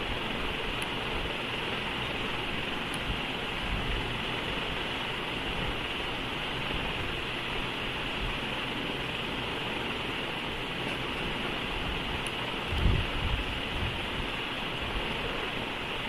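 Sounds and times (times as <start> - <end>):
steady microphone hiss: 0.0 - 16.0.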